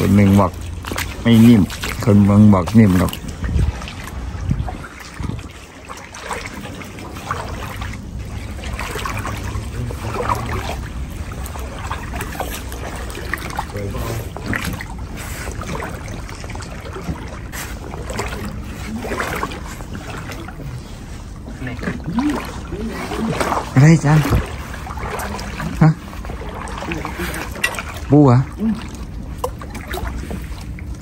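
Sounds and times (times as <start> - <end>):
small water splashes: 0.0 - 31.0
water trickling and lapping: 0.0 - 31.0.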